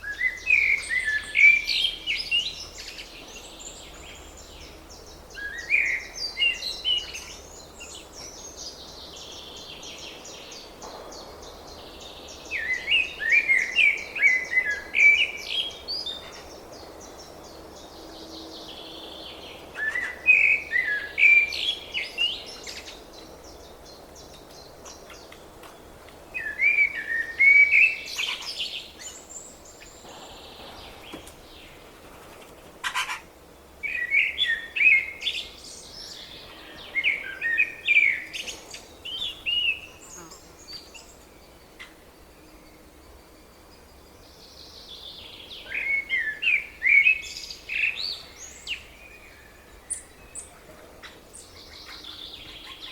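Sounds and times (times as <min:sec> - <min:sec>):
songbird singing whistled notes: 0:00.0 - 0:25.4, 0:26.4 - 0:31.8, 0:33.8 - 0:52.9
steady background hiss: 0:00.0 - 0:52.9.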